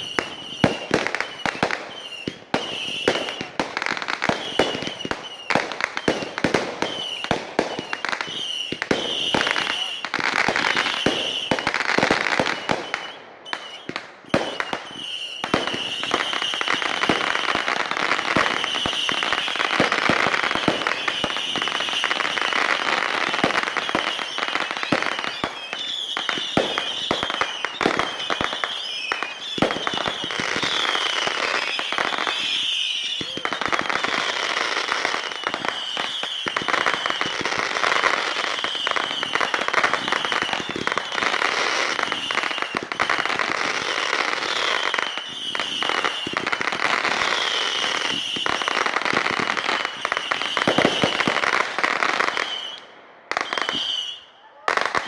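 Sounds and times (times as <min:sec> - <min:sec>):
fireworks pops bangs and crackling: 0:00.0 - 0:55.0
high wavering firework whistle: 0:00.0 - 0:55.0.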